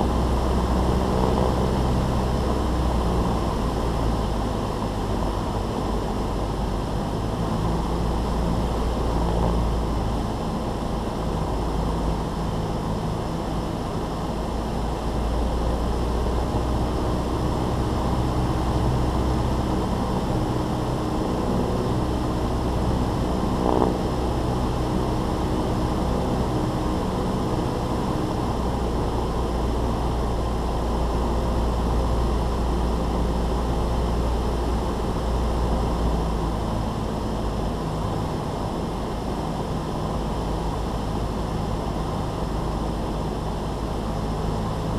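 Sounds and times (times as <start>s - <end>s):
propeller aircraft engine droning: 0.0s - 44.9s.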